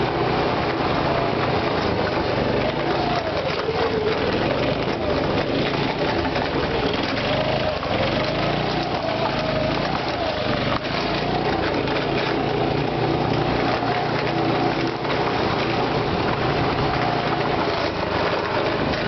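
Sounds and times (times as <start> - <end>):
go-kart engine running: 0.0 - 19.0
kart rattling over bumps: 0.0 - 19.0.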